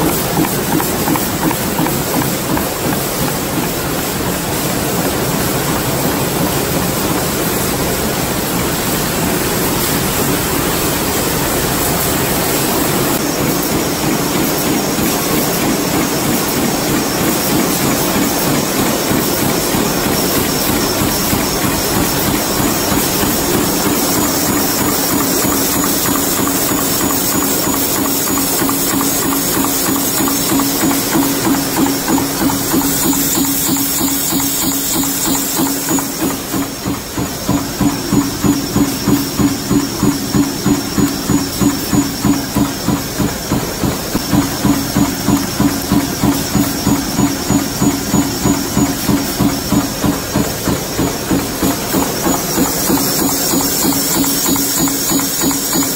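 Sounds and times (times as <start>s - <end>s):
machine mechanical clatter: 0.0s - 55.9s.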